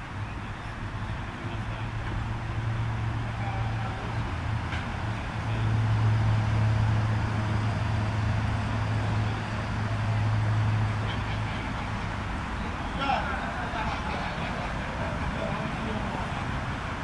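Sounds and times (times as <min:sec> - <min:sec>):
low engine hum: 0:00.0 - 0:17.0
outdoor background noise: 0:00.0 - 0:17.0.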